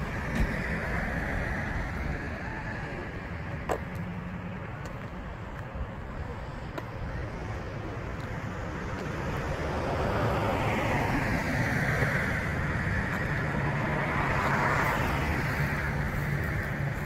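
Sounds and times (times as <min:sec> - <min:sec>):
low engine hum: 0:00.0 - 0:17.0
rushing engine and road sound: 0:00.0 - 0:17.0.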